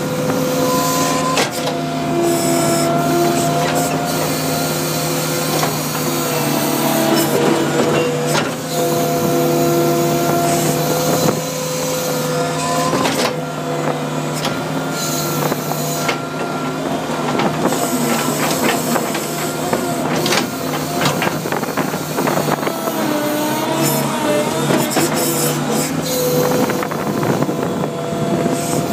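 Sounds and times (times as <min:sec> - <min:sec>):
skid steer loader engine drone: 0:00.0 - 0:28.9.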